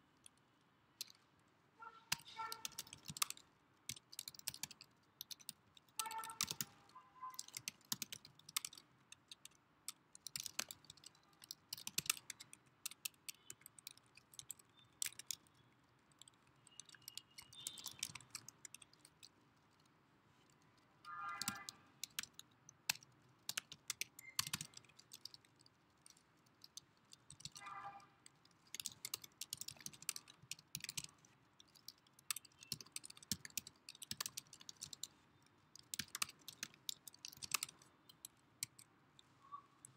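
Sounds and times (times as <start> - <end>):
typing on computer keyboard: 1.0 - 1.2, 1.8 - 39.9.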